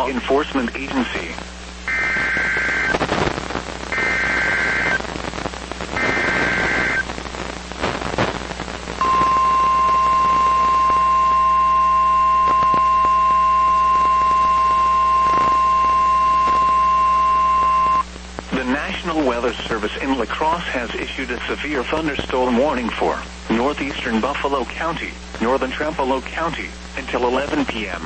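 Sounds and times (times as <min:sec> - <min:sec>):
radio static: 0:00.0 - 0:28.0.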